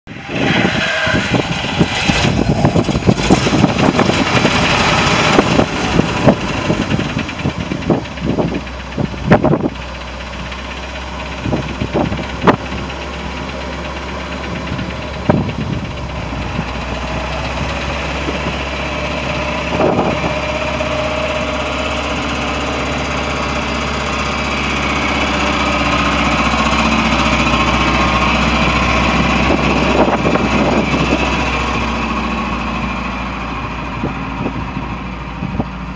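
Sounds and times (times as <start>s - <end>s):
truck engine idling: 0.1s - 35.9s.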